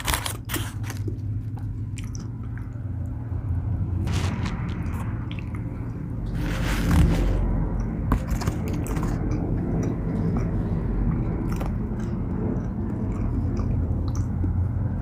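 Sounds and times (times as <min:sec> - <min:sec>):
person chewing food: 0:00.0 - 0:03.2, 0:04.1 - 0:15.0.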